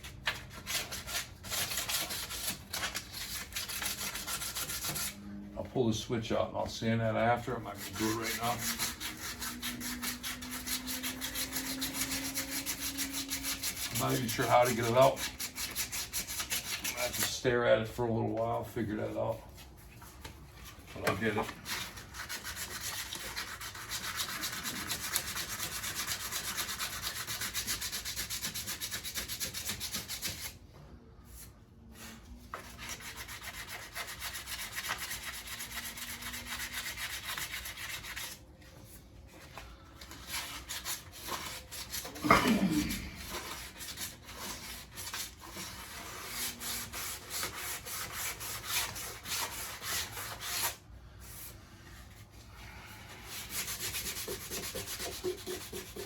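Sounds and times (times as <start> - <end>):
sandpaper rubbing on metal: 0.0 - 5.2, 7.4 - 17.4, 21.2 - 30.6, 31.3 - 38.4, 40.1 - 51.6, 53.1 - 56.0.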